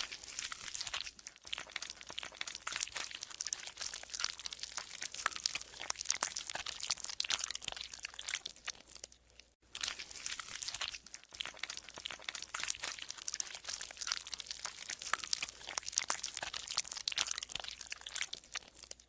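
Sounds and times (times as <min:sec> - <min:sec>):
slime crackling and squelching: 0:00.0 - 0:19.0.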